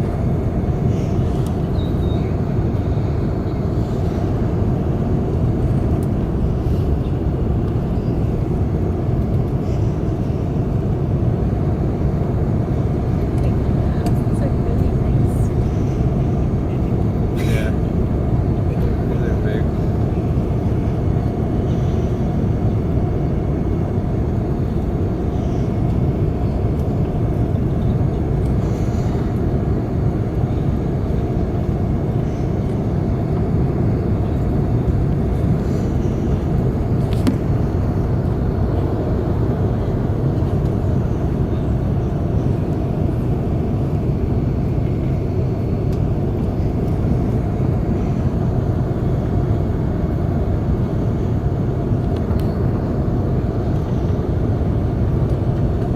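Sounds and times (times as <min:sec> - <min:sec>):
airplane cabin engine noise: 0:00.0 - 0:55.9.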